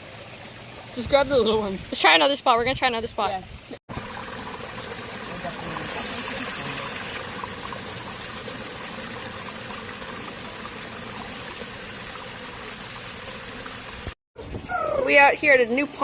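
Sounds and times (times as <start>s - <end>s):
running water rushing: 0.0s - 14.2s.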